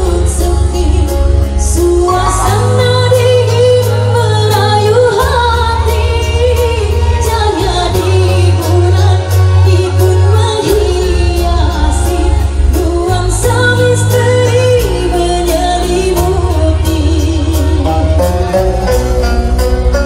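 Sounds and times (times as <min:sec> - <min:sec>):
person singing: 0:00.0 - 0:19.2
held bass notes: 0:00.0 - 0:20.0.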